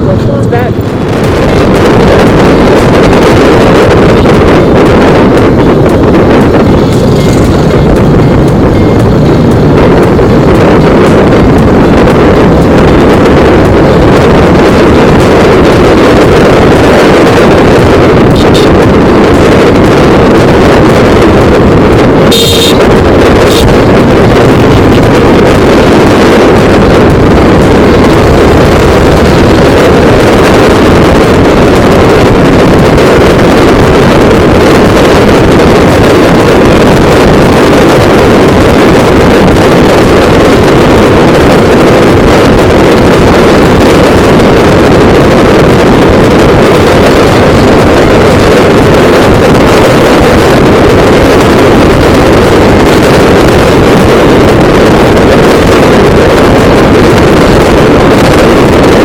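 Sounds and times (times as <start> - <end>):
motorcycle engine: 0.0 - 59.0
road noise: 0.0 - 59.0
wind rush on microphone: 0.0 - 59.0.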